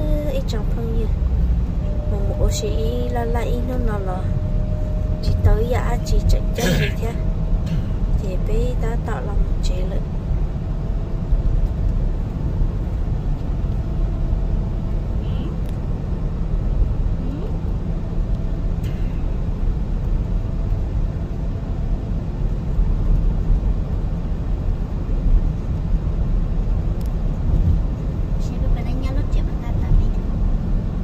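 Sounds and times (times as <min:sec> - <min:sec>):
car tyres and engine rumble: 0:00.0 - 0:31.0.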